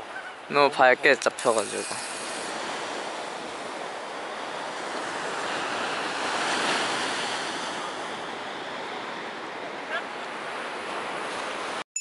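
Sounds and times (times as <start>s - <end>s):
ocean waves breaking on beach: 0.0s - 11.8s.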